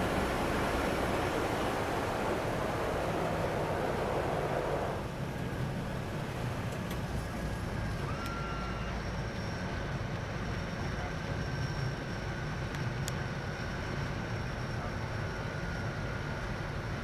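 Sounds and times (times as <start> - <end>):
high turbine whine: 0.0 - 17.0
turboprop engines droning: 0.0 - 17.0.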